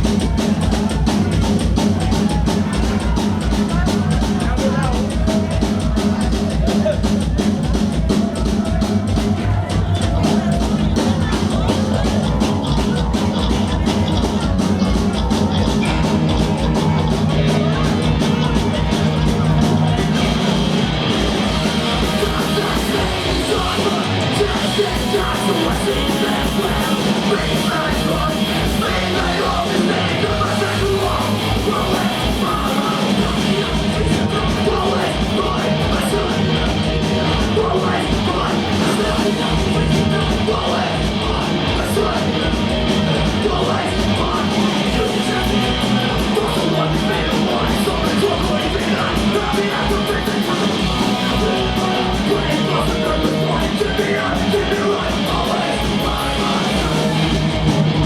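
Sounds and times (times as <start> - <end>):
punk rock band playing live: 0.0 - 58.0
yelled vocals: 0.0 - 58.0.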